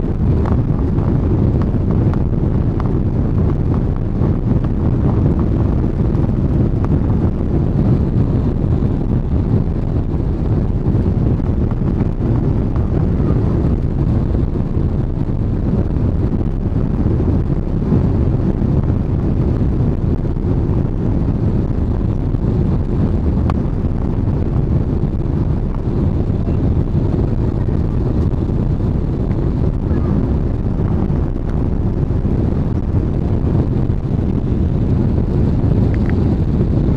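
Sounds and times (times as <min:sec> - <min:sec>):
airliner cabin engine rumble: 0:00.0 - 0:36.9.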